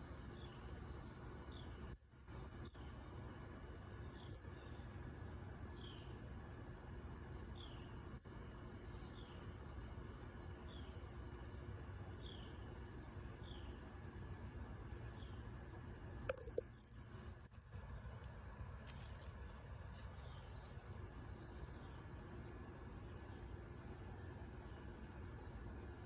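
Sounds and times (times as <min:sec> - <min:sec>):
falling insect chirp: 0:00.0 - 0:26.0
insects trilling: 0:00.0 - 0:26.0
low background rumble: 0:00.0 - 0:26.0.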